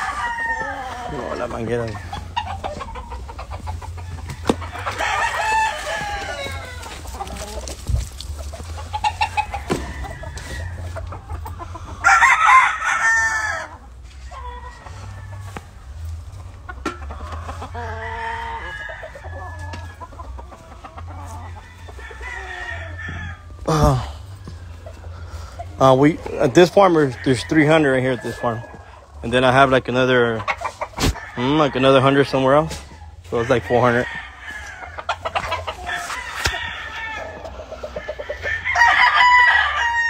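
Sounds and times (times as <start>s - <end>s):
chickens clucking: 0.0s - 40.0s
roosters crowing: 0.0s - 40.0s.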